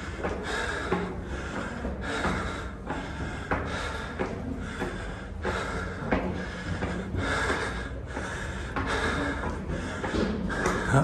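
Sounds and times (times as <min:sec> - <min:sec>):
person breathing heavily: 0:00.0 - 0:11.0.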